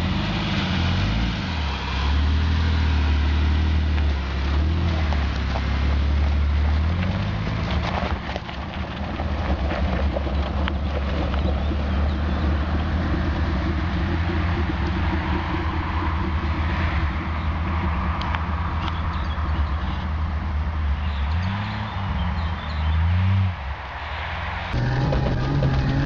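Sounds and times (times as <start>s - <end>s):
car engine pulling away: 0.0s - 23.7s, 24.7s - 26.0s.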